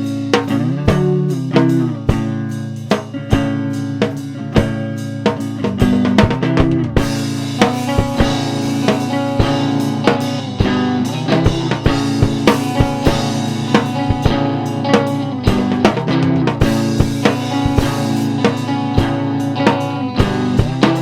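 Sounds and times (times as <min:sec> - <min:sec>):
instrumental rock music: 0:00.0 - 0:21.0.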